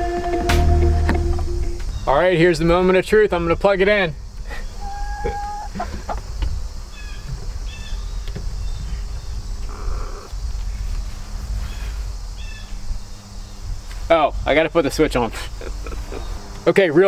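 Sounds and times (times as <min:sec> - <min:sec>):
faint insect hum: 0:00.0 - 0:17.0
wind rumble on microphone: 0:01.0 - 0:16.6.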